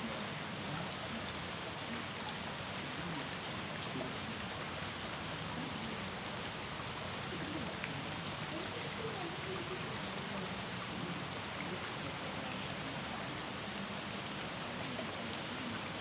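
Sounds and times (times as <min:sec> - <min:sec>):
rain falling on a pond: 0:00.0 - 0:16.0.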